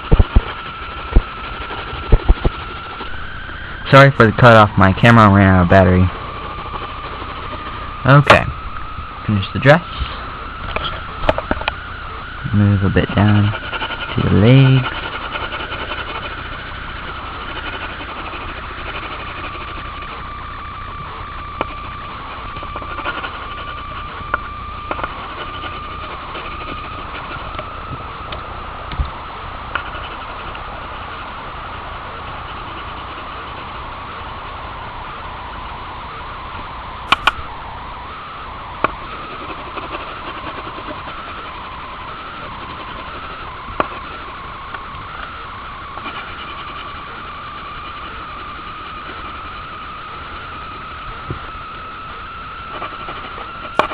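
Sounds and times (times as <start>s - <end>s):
machine hum with high whine: 0.0s - 53.9s.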